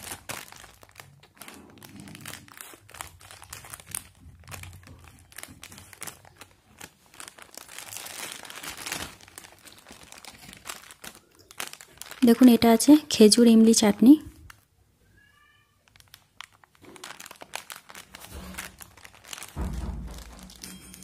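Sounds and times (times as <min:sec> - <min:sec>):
scissors cutting plastic bag: 0:00.0 - 0:12.8, 0:16.0 - 0:21.0
plastic and foil crinkling: 0:00.0 - 0:14.7, 0:15.4 - 0:21.0.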